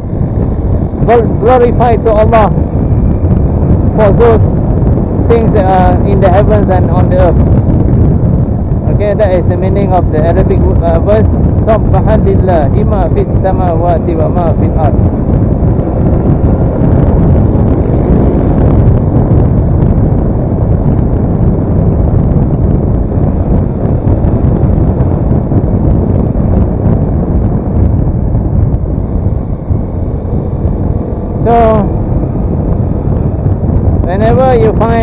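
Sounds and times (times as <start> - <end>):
road noise: 0.0 - 35.0
wind buffeting microphone: 0.0 - 35.0.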